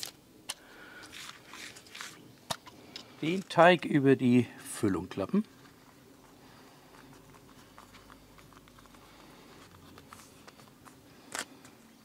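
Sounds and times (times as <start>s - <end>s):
soft rustling of dough: 0.6s - 12.0s.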